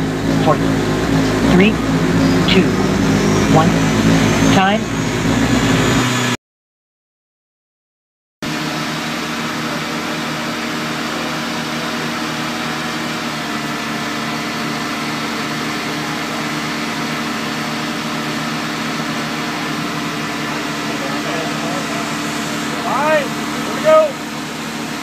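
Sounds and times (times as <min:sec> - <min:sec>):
engine idling: 0:00.0 - 0:06.4, 0:08.4 - 0:25.0.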